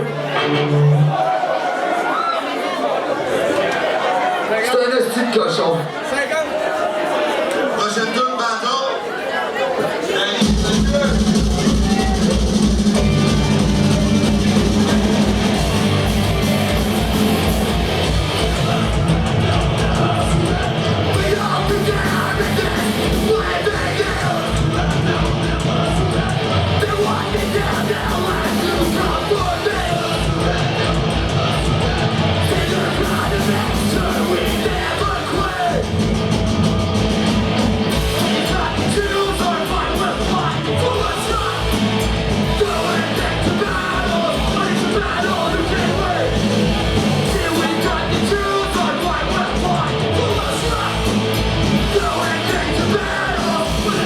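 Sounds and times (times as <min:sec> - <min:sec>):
distorted electric guitars: 0:00.0 - 0:01.2, 0:10.4 - 0:54.0
shouted vocals: 0:00.0 - 0:54.0
bass: 0:10.4 - 0:54.0
fast driving drums: 0:10.4 - 0:54.0.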